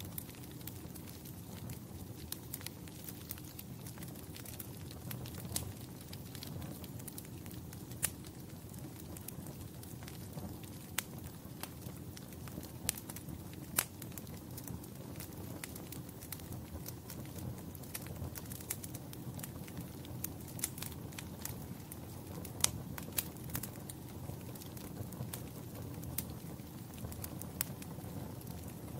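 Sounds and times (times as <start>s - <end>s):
log fire crackling: 0.0s - 28.9s
low rumble of flame: 0.0s - 28.9s.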